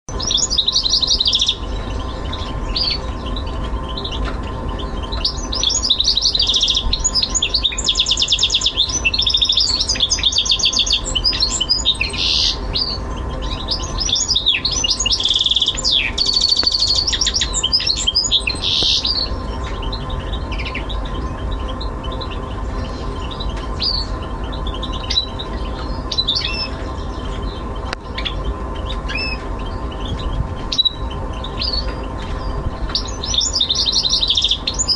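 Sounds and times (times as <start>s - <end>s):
bird singing trills: 0.1s - 34.9s.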